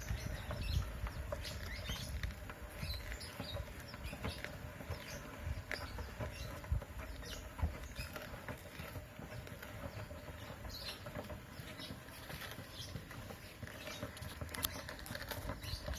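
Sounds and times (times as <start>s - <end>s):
small taps and scratches: 0.0s - 15.9s.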